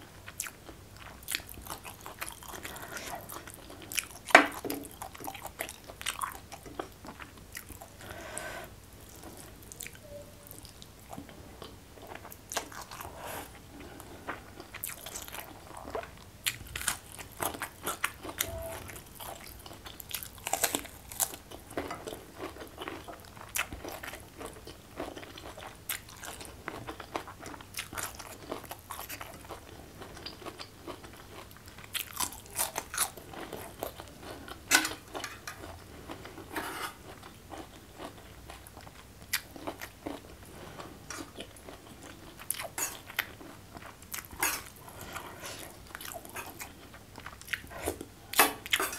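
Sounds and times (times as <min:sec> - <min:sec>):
chewing and crunching: 0:00.2 - 0:08.0, 0:09.1 - 0:48.9.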